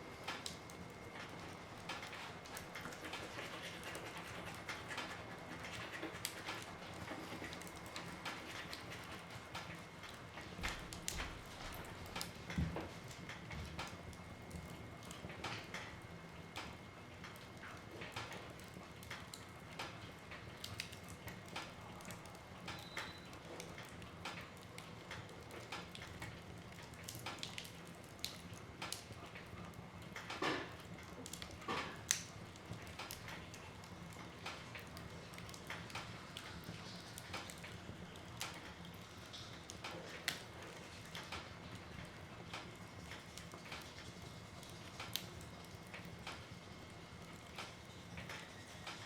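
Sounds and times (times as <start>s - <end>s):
wood fire crackling and popping: 0.0s - 49.0s.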